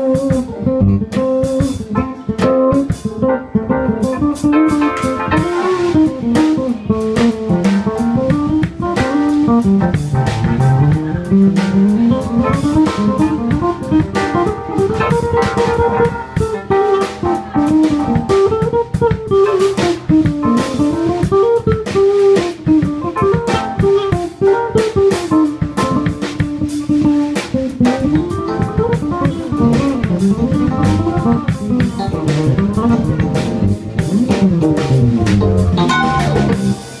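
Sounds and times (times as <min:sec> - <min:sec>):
drum kit playing: 0:00.0 - 0:37.0
electric bass guitar runs: 0:05.0 - 0:36.8.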